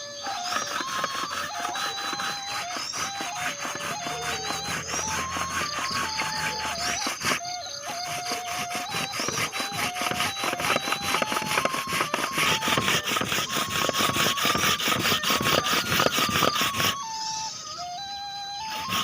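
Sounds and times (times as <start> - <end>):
rapid rhythmic scraping: 0.0 - 19.0.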